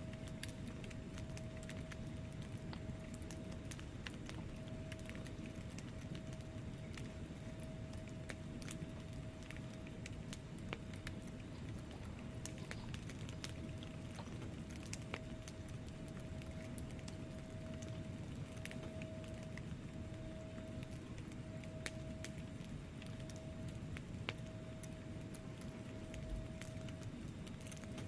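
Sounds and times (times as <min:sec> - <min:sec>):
low rumble of flames: 0:00.0 - 0:28.0
thin steady hum: 0:00.0 - 0:28.0
wood fire crackling and popping: 0:00.0 - 0:28.0.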